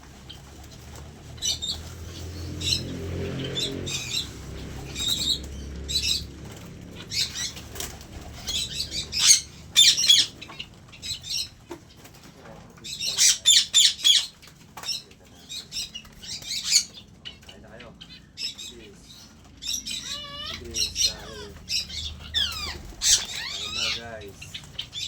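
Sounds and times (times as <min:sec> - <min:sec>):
birds chirping: 0:00.0 - 0:25.0
birds flapping wings: 0:00.0 - 0:25.0.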